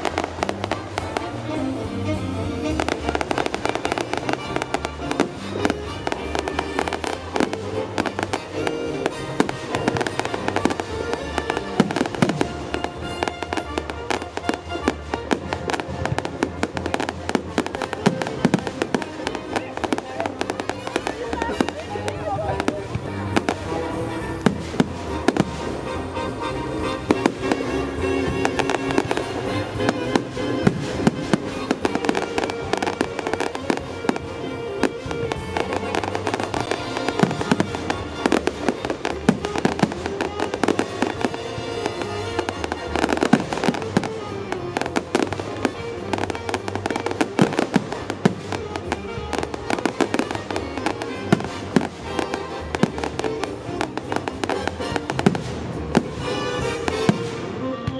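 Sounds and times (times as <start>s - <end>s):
fireworks bursting and crackling: 0.0s - 57.9s
music playing: 0.0s - 57.9s.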